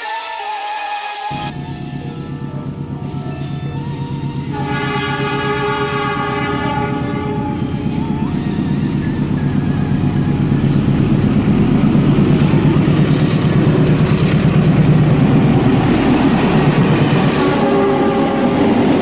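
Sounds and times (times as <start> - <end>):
train rumbling and rattling on track: 1.5 - 19.0.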